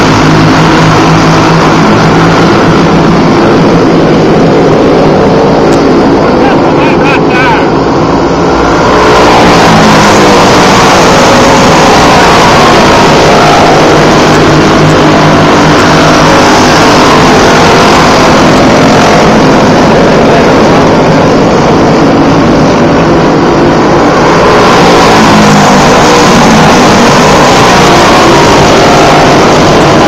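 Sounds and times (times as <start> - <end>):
go-kart engines at high revs: 0.0 - 30.0.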